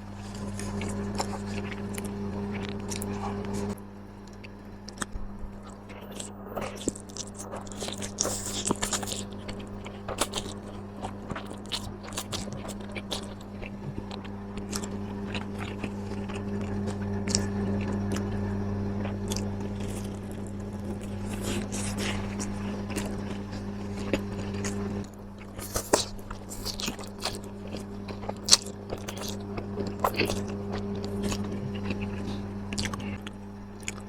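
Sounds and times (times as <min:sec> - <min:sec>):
steady low hum: 0:00.0 - 0:34.0
person chewing crisp food: 0:00.1 - 0:34.0.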